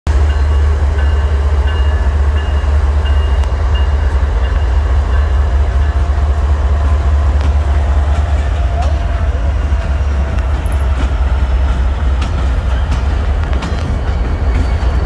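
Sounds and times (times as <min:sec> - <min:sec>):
diesel locomotive rumbling: 0:00.1 - 0:15.0.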